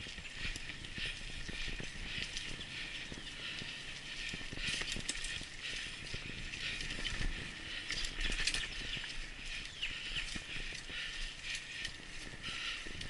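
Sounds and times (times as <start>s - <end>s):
bike rattling over bumps: 0.0s - 13.0s
bike tires crackling through leaves: 0.0s - 13.0s.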